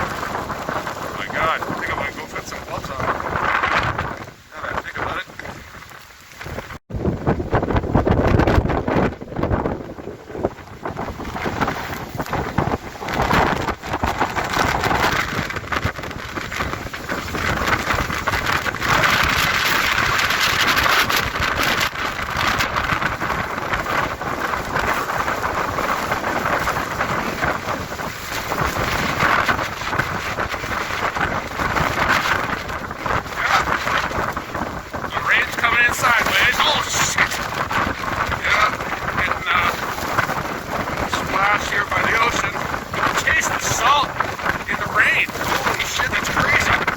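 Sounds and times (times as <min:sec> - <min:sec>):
driving rain spattering: 0:00.0 - 0:06.8, 0:07.4 - 0:46.9
wind buffeting microphone: 0:00.0 - 0:46.9
wind gusting: 0:00.0 - 0:46.9.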